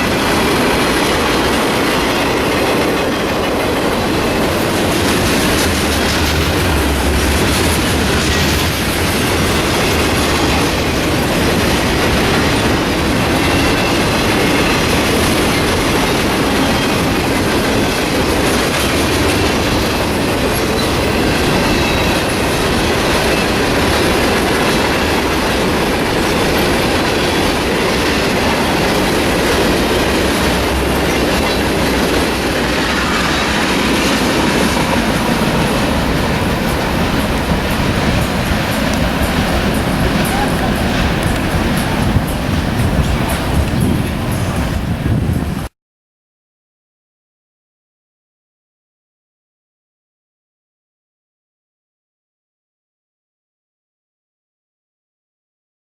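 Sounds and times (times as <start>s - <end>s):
freight train wheels clacking: 0.0s - 45.7s.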